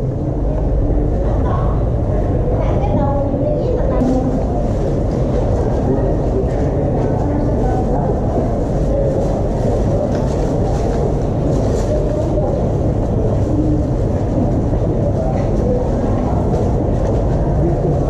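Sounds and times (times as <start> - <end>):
low background rumble: 0.0 - 18.0
murmur of voices: 0.0 - 18.0.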